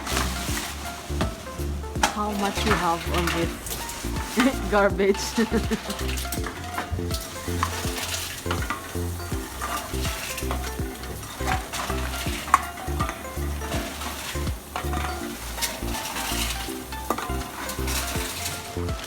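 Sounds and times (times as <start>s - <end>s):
repeating bass line: 0.0s - 19.0s.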